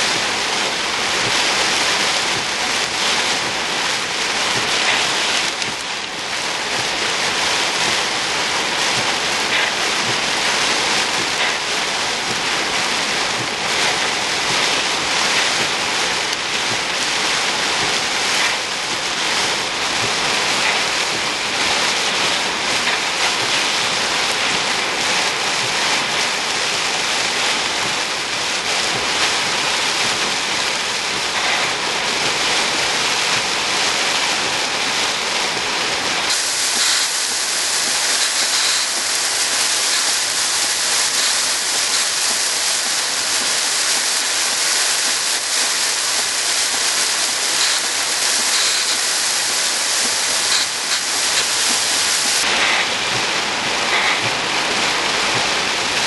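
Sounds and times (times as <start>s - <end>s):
storm rain hissing: 0.0s - 56.0s.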